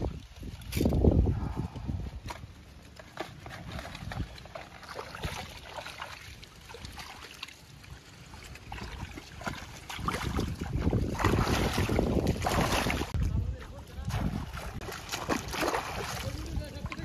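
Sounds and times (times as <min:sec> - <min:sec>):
shallow water splashing: 0:02.3 - 0:17.0.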